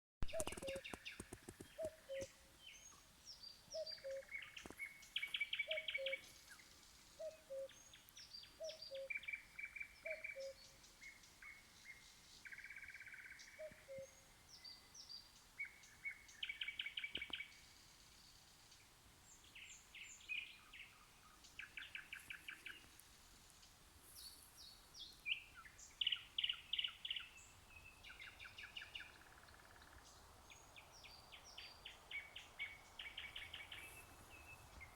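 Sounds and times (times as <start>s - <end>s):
nightingale singing: 0.2s - 17.8s, 19.3s - 22.9s, 24.2s - 34.9s.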